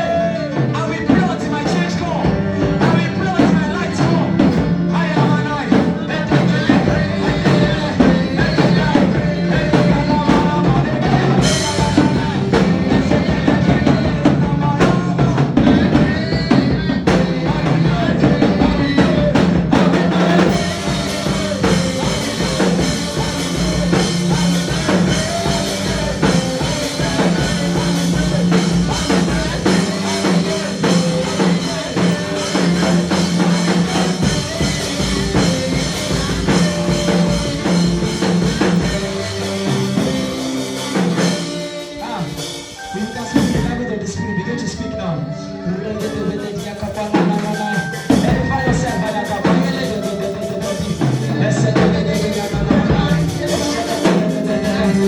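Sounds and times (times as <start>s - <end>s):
bass line: 0.0s - 55.0s
drum kit: 0.0s - 55.0s
melody: 0.0s - 55.0s.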